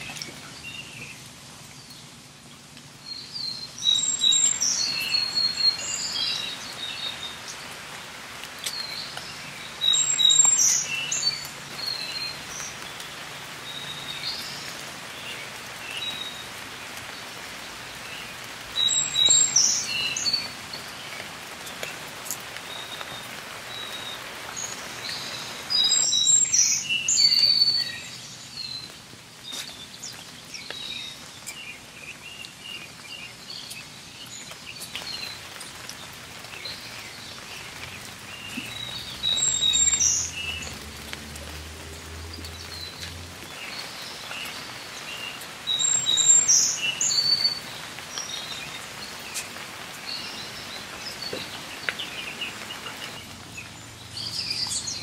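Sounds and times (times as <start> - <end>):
rain falling on foliage: 0.0 - 55.0.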